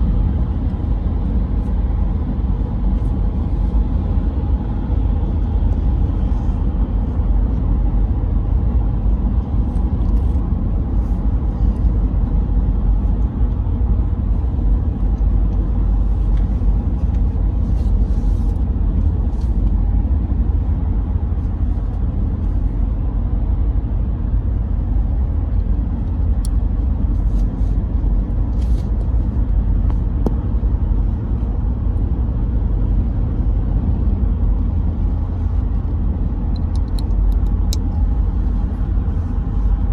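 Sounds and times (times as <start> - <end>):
moving car rumble: 0.0 - 39.9.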